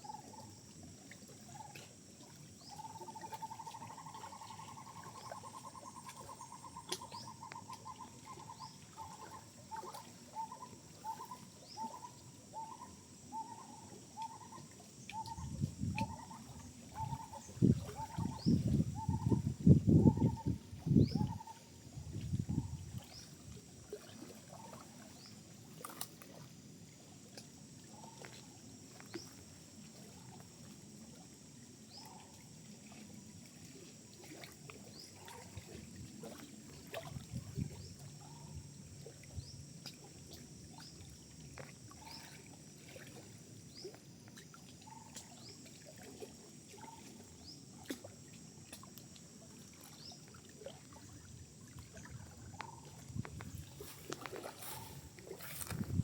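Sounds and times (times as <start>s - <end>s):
water trickling and lapping: 0.0s - 56.0s.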